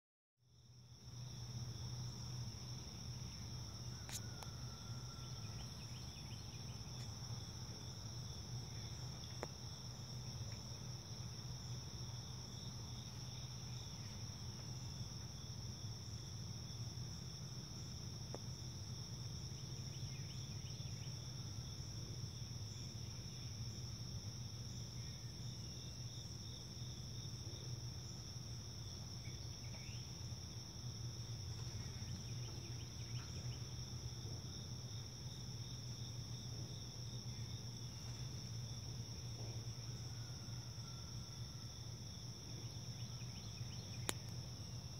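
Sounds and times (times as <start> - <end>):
constant low hum: 0.4 - 44.9
high-pitched insect chorus: 0.5 - 44.9.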